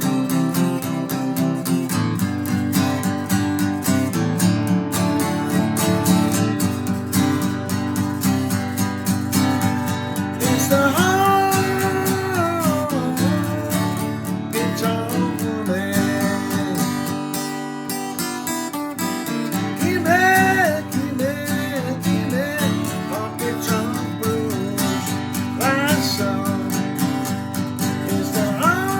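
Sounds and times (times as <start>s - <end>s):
sliding lead guitar line: 0.0s - 28.9s
strummed acoustic guitar: 0.0s - 28.9s.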